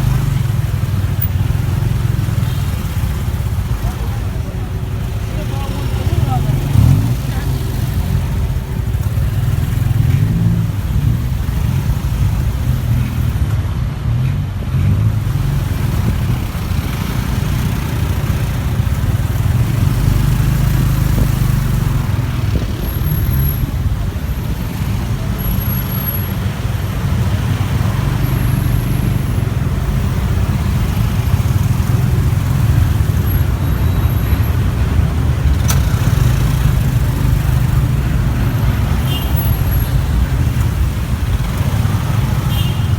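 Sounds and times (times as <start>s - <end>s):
motorcycle engine running: 0.0s - 13.4s, 15.1s - 42.9s
road traffic: 0.0s - 42.9s.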